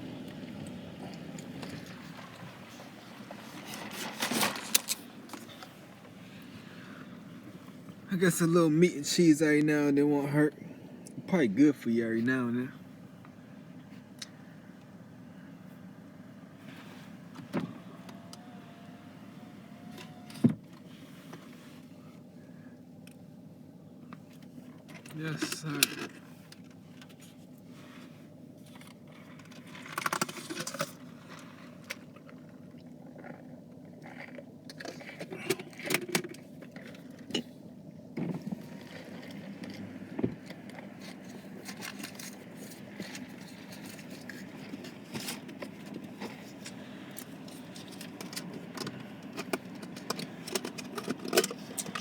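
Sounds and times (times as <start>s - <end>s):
low hum inside car: 0.0s - 52.0s.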